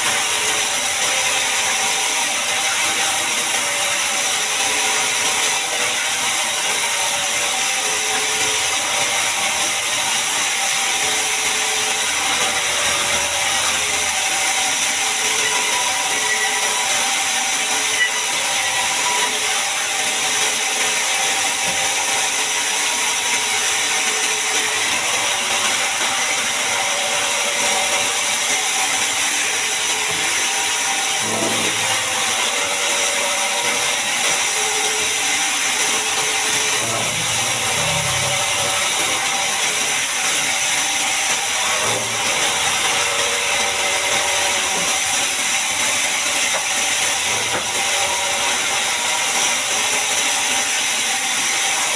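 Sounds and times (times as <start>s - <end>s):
band sawmill blade sawing log: 0.0s - 51.9s.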